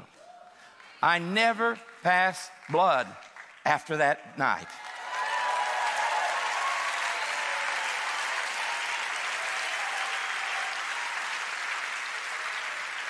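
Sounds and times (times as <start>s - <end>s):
large audience applauding: 1.6s - 4.0s, 4.7s - 13.0s.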